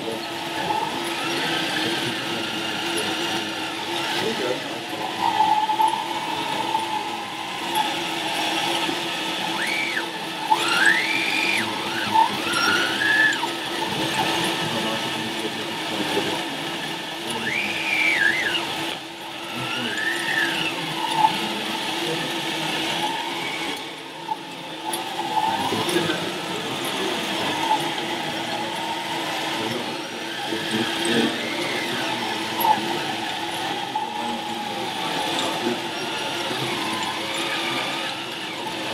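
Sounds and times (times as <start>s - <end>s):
toy loader electric motors whining: 0.0s - 38.9s.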